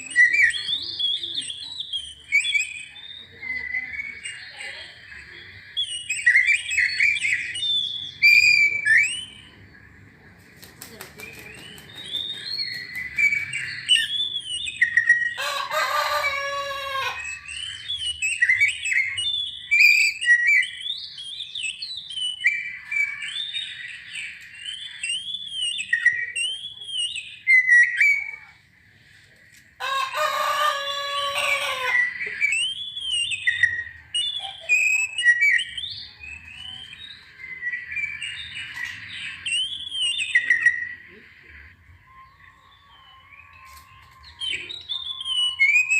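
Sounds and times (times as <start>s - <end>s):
bird whistled song phrases: 0.0s - 9.6s, 11.3s - 15.4s, 16.2s - 28.6s, 30.7s - 45.9s.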